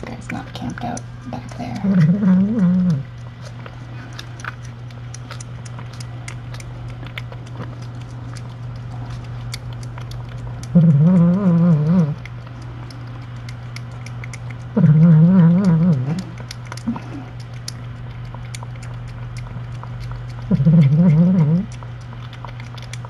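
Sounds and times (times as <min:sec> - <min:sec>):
cat chewing and lapping: 0:00.0 - 0:23.0
steady hum: 0:00.0 - 0:23.0.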